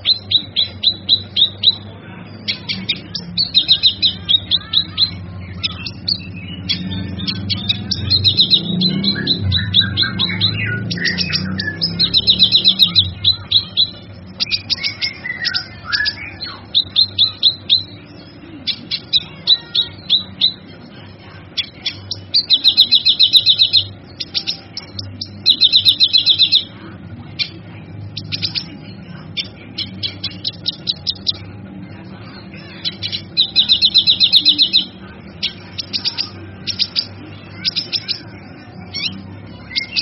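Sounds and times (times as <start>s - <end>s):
bird chirping and trilling: 0.0s - 40.0s.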